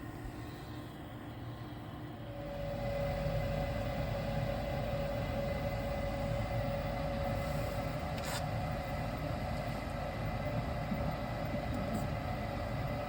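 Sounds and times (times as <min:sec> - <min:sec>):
furnace exhaust fan humming and whining: 0:00.0 - 0:13.0.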